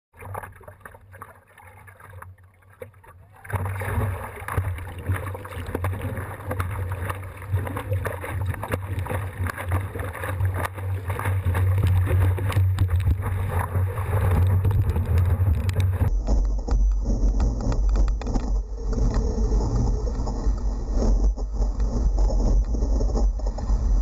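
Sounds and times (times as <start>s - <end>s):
water splashes: 0.1s - 24.0s
water rushing: 0.2s - 24.0s.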